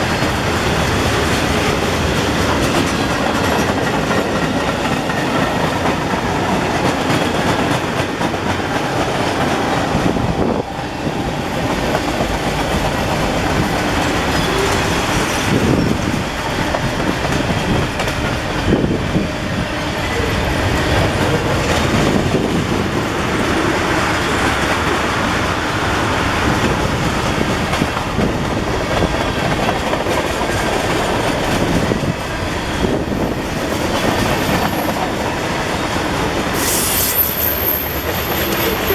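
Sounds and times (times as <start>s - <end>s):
freight train cars rolling past: 0.0s - 38.9s.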